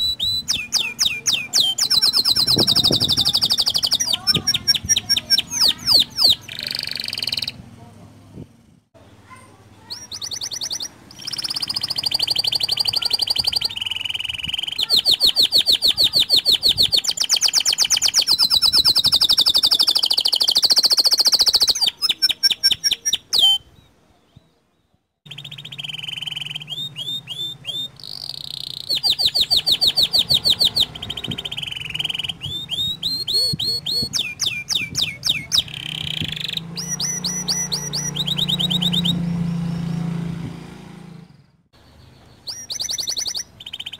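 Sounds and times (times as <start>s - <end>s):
canary singing fast trills: 0.0s - 7.8s, 8.5s - 24.4s, 25.2s - 43.9s.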